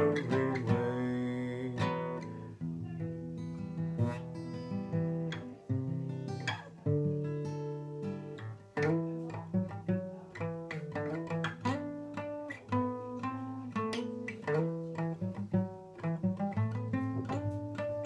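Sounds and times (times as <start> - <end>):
solo acoustic guitar: 0.0 - 18.0.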